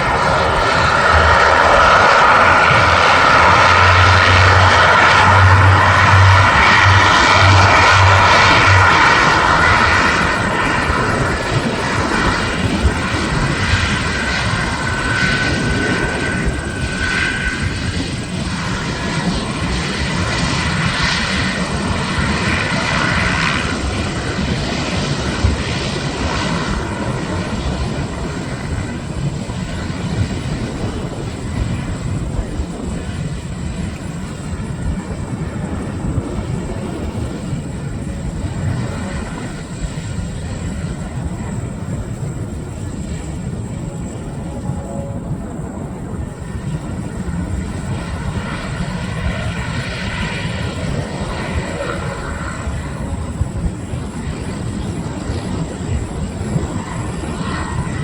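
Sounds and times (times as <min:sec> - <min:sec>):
turboprop engines running: 0:00.0 - 0:58.0.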